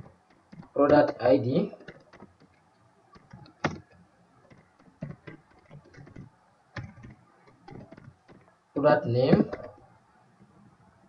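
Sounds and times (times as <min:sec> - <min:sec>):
keyboard typing: 0:00.0 - 0:08.5, 0:09.3 - 0:09.9.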